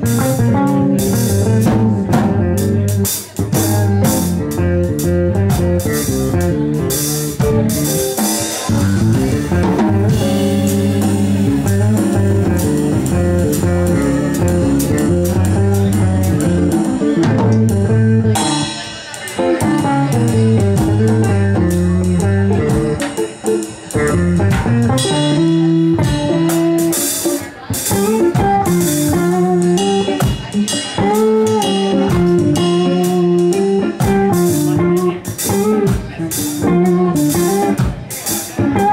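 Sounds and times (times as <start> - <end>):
drum kit with cymbals: 0.0 - 38.9
electric bass guitar: 0.0 - 38.9
electric guitar: 0.0 - 38.9.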